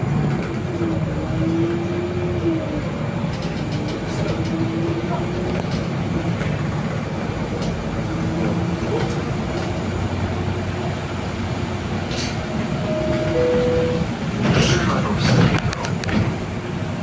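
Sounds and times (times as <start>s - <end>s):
bus drivetrain rumble: 0.0s - 17.0s.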